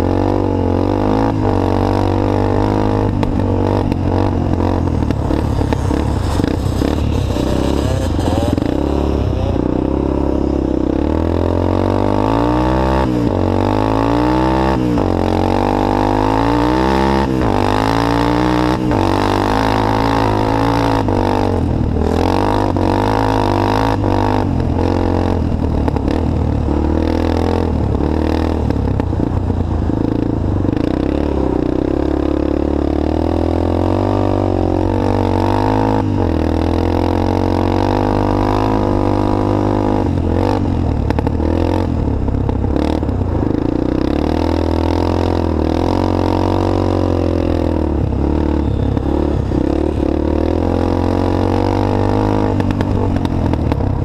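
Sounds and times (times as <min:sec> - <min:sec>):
motorbike engine accelerating: 0:00.0 - 0:54.0.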